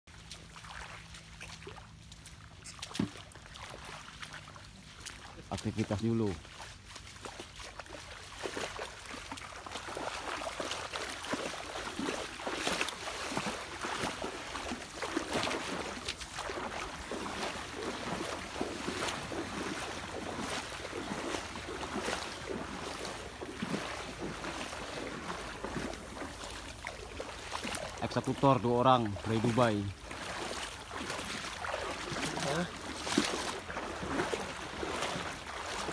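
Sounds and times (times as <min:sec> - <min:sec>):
wading through muddy water: 0:00.0 - 0:35.9.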